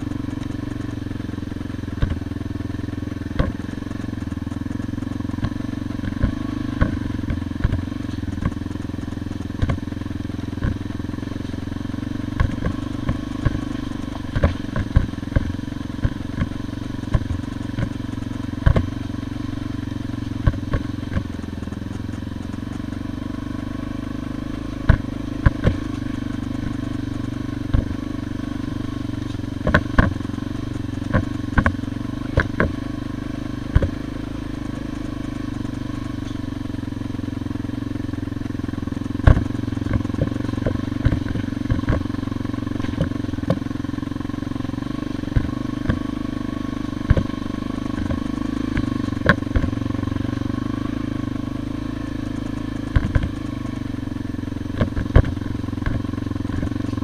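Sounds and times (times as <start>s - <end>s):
knocks and rattles of bike: 0.0s - 57.0s
motorcycle engine running: 0.0s - 57.0s.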